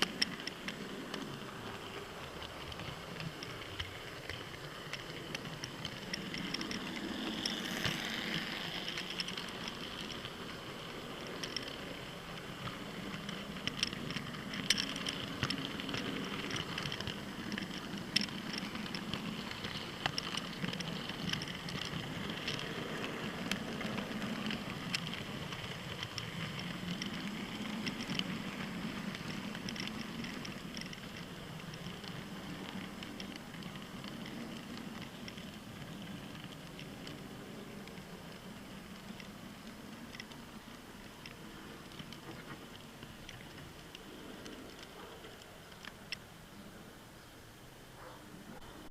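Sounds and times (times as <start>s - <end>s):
model train wheels and motors: 0.0s - 48.9s.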